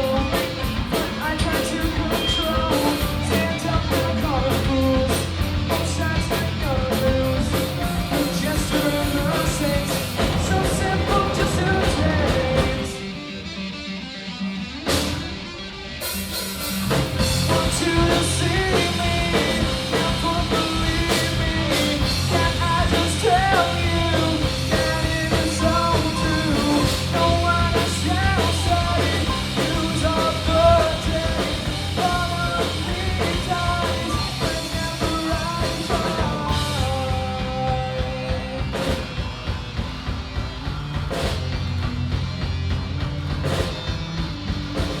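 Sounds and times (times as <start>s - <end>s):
live rock band playing loudly: 0.0s - 45.0s.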